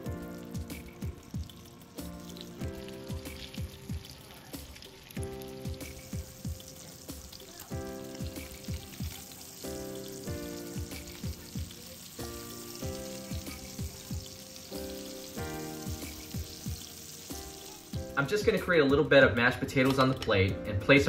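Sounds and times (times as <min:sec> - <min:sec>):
fish sizzling in skillet: 0:00.0 - 0:20.3
background music with chords: 0:00.0 - 0:21.0.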